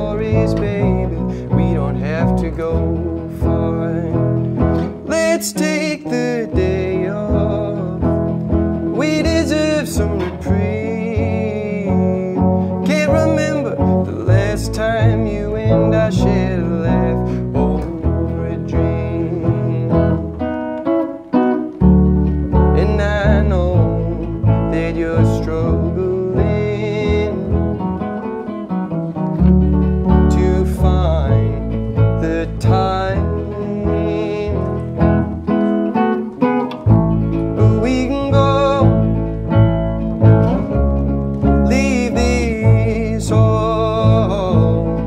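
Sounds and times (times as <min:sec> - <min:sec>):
acoustic guitar chords: 0:00.0 - 0:45.0
plucked upright bass: 0:00.0 - 0:45.0.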